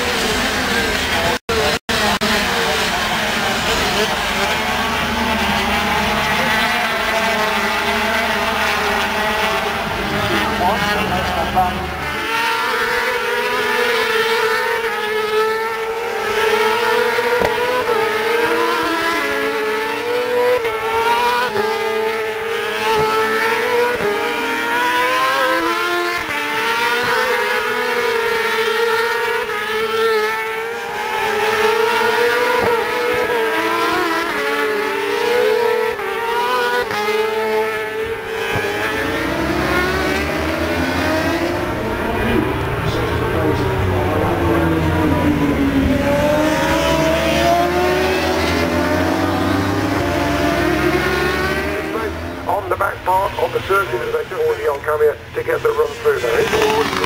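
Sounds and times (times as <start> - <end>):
racing motorcycles at high revs: 0.0 - 57.0.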